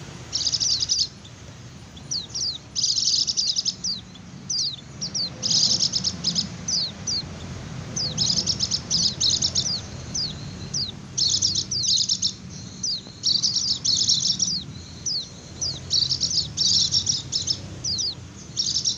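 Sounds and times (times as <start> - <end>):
birds trilling chatter: 0.0 - 18.9.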